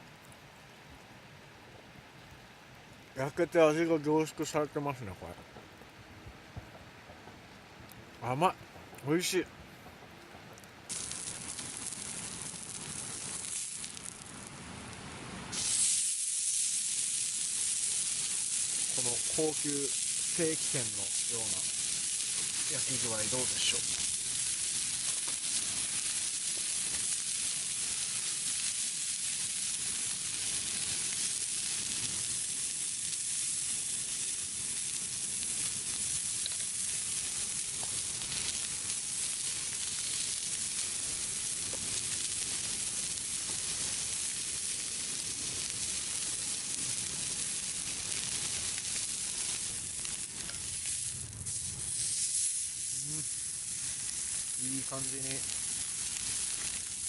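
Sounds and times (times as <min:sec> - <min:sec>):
steak sizzling on griddle: 0:10.9 - 0:57.0.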